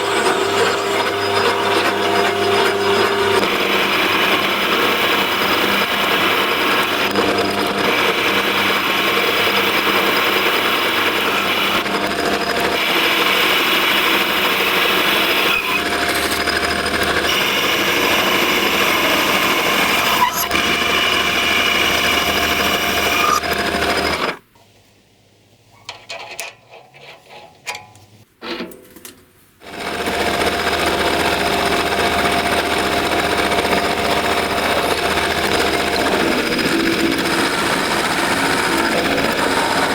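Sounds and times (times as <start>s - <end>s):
power tool running: 0.0s - 24.4s, 29.6s - 39.9s.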